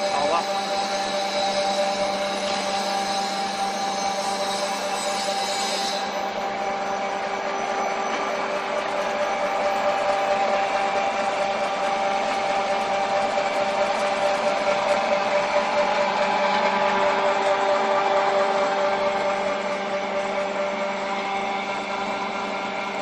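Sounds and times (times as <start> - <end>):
pellet mill motor hum: 0.0 - 23.0.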